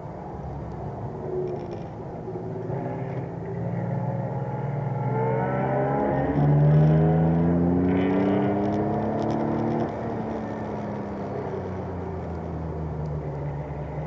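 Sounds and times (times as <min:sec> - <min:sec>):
car engine accelerating hard: 0:02.6 - 0:14.0.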